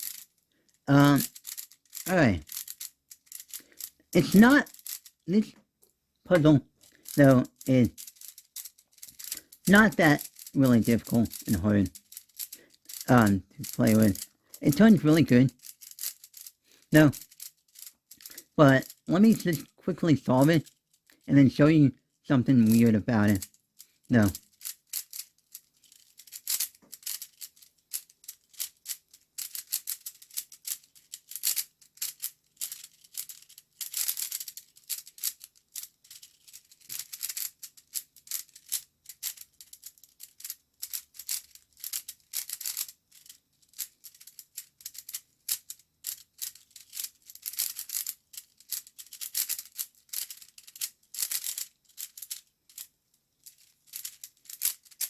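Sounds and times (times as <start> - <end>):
puzzle cube clicking and rattling: 0.0 - 5.5, 6.3 - 21.6, 22.4 - 55.0.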